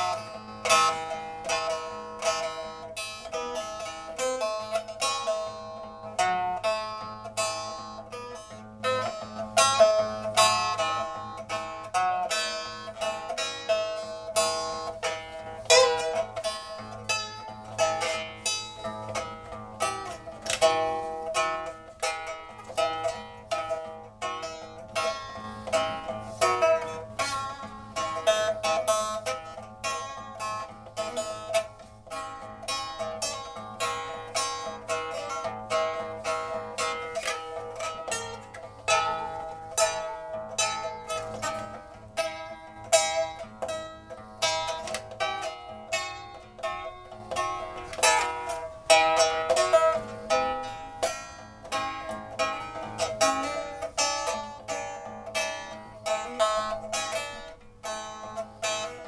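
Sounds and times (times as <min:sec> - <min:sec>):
plucked zither music: 0:00.0 - 0:59.0.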